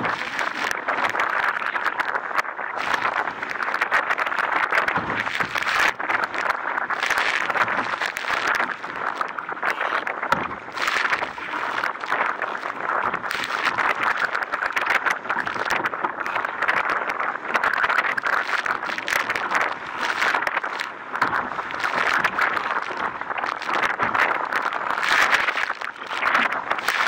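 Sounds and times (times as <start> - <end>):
water splashing along hull: 0.0 - 27.0
wind on microphone: 0.0 - 27.0.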